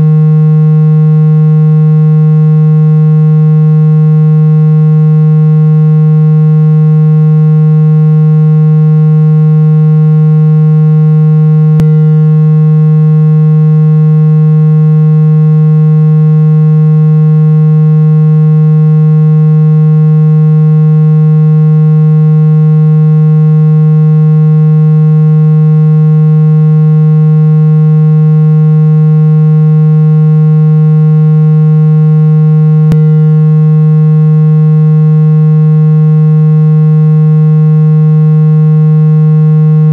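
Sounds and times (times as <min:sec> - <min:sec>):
low buzzy synthetic tone: 0:00.0 - 0:39.9.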